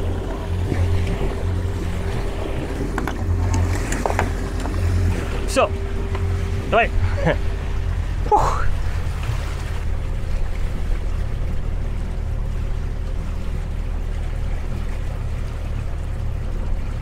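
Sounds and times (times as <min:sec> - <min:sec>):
boat engine humming: 0:00.0 - 0:17.0
water noise: 0:00.0 - 0:17.0.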